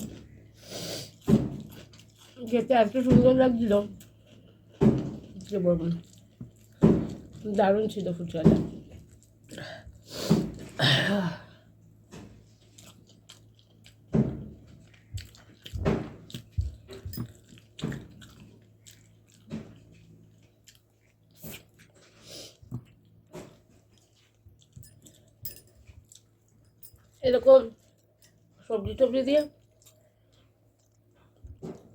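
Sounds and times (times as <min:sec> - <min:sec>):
person chewing: 0:00.0 - 0:03.0, 0:03.6 - 0:08.0, 0:08.6 - 0:10.8, 0:11.4 - 0:28.6, 0:29.5 - 0:31.9.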